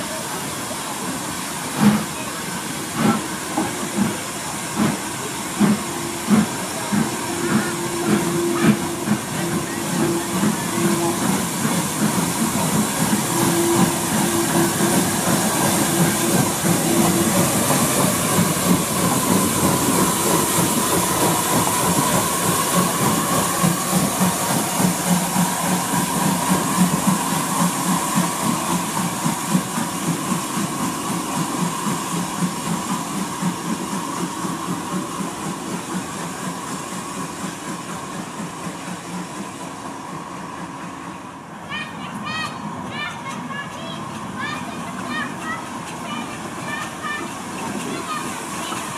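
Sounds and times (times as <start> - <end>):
steam hiss: 0.0 - 48.9
steam locomotive exhaust beats: 0.0 - 48.9
wagons rumbling on rails: 0.0 - 48.9.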